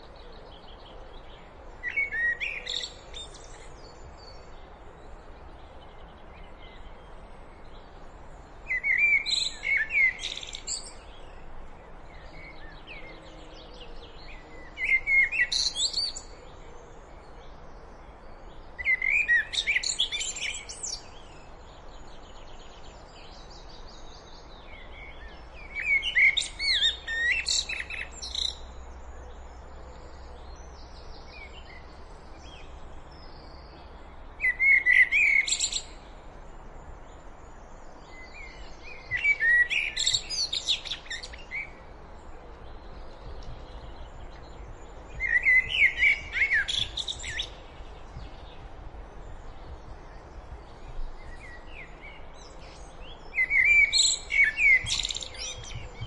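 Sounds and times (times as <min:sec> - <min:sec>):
blackbird singing: 0:00.0 - 0:04.7, 0:08.6 - 0:28.8, 0:30.0 - 0:36.2, 0:37.9 - 0:56.0.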